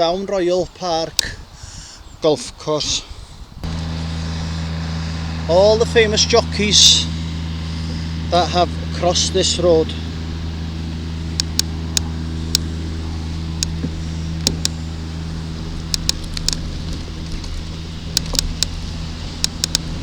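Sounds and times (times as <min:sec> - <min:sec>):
bicycle ticks and rattles: 0:01.1 - 0:01.9, 0:03.6 - 0:20.0
bicycle rumbling on a road: 0:03.1 - 0:20.0.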